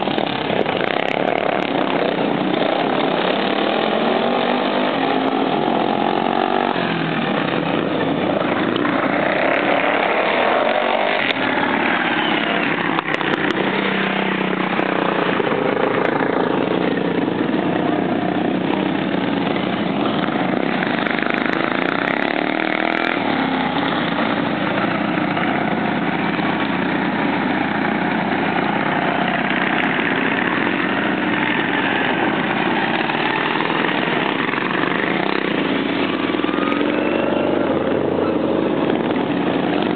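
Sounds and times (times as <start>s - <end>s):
small engines revving: 0.0s - 39.9s.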